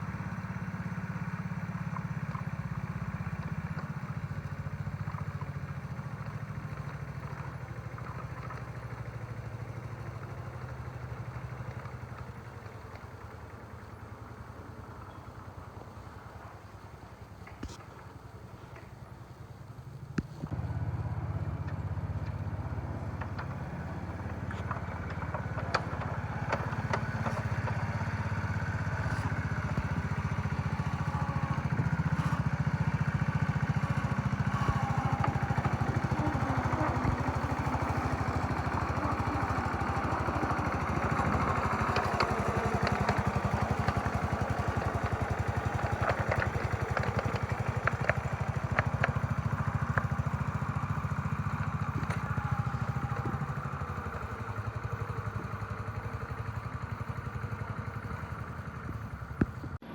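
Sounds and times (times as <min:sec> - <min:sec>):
small locomotive engine running: 0:00.0 - 0:59.9.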